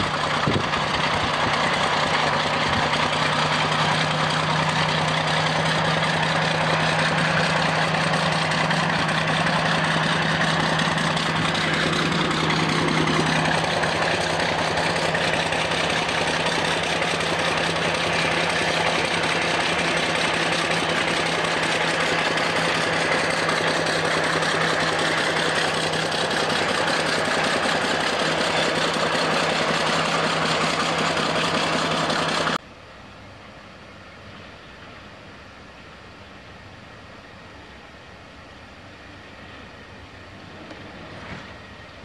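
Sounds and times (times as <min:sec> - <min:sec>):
diesel locomotive engine running: 0:00.0 - 0:42.0.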